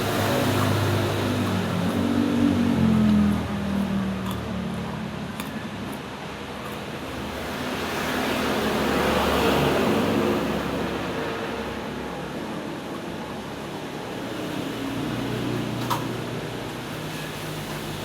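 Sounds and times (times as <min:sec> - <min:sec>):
road vehicle passing by: 0:00.0 - 0:18.0.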